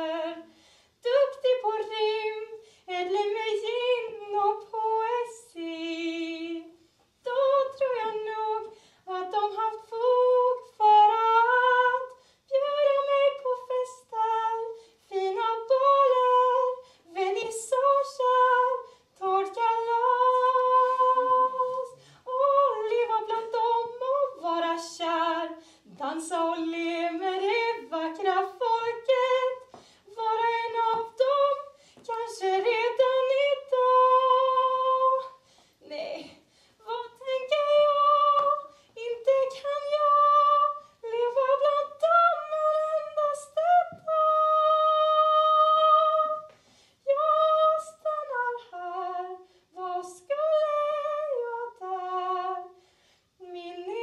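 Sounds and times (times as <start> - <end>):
woman singing: 0.0 - 52.8, 53.4 - 54.0.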